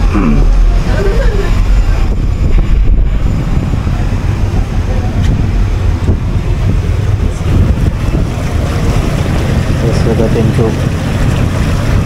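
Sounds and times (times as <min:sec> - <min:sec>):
boat engine drone: 0:00.0 - 0:12.0
wind buffeting microphone: 0:00.0 - 0:12.0.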